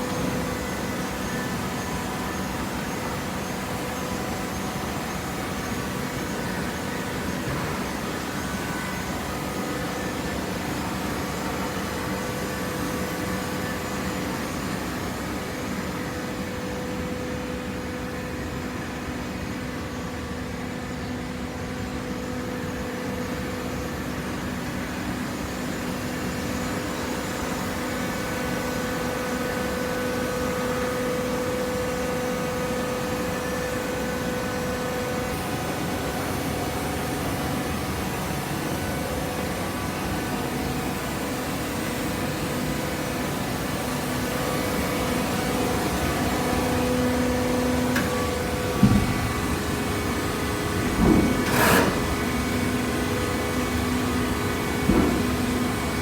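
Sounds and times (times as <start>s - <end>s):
baler pump and motor humming: 0.0s - 56.0s.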